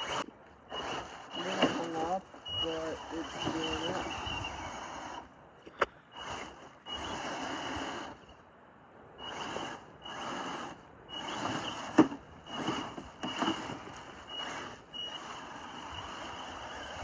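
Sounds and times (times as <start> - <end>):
toy car motor whining: 0.0 - 5.3, 6.1 - 8.3, 9.2 - 17.0.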